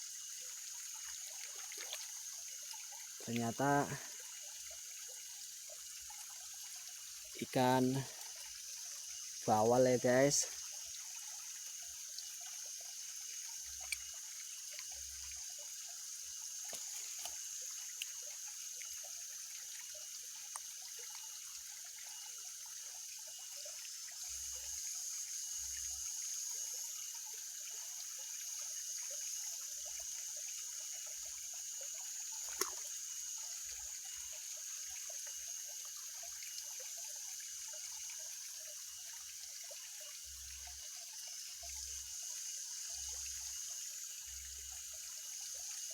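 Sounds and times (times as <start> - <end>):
water trickling: 0.0 - 45.9.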